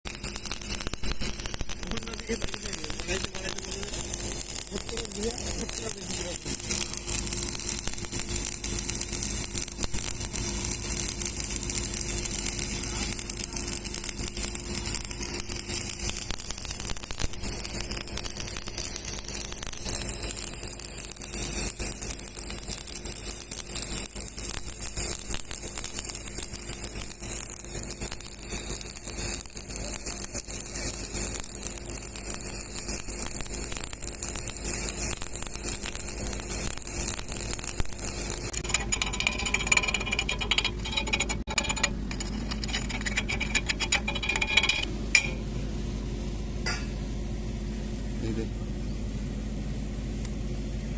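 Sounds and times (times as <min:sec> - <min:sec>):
welding arc crackling hiss: 0:00.0 - 0:48.5.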